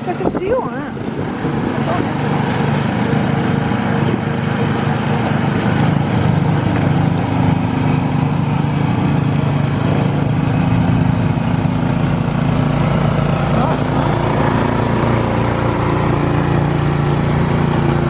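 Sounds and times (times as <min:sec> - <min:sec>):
snowblower engine running: 0:00.0 - 0:18.0.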